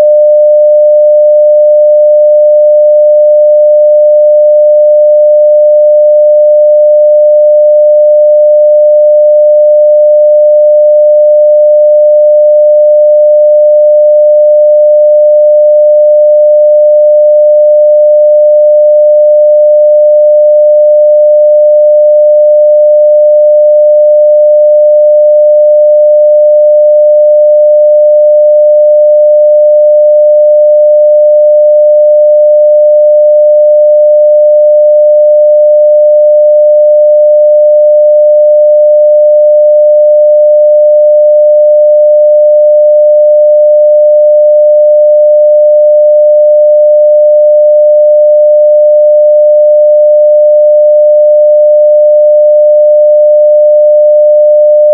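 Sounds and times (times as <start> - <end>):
sine-wave test tone: 0.0 - 54.9.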